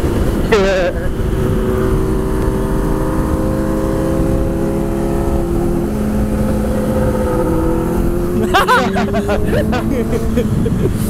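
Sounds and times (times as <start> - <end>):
motorcycle engine at steady revs: 0.0 - 11.0
wind rushing over microphone: 0.0 - 11.0.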